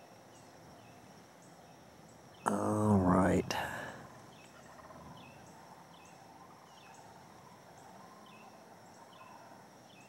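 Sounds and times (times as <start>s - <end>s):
faint steady hum: 0.0s - 10.0s
birds chirping: 0.3s - 10.0s.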